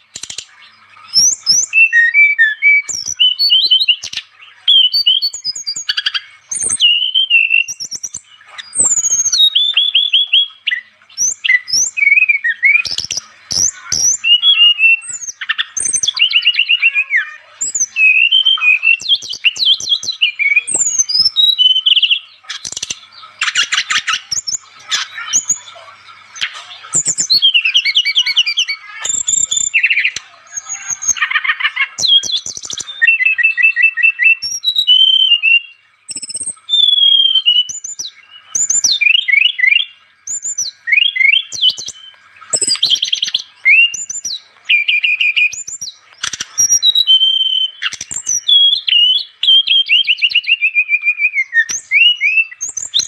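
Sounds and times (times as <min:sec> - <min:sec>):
bird singing whistles and trills: 0:00.0 - 0:53.0.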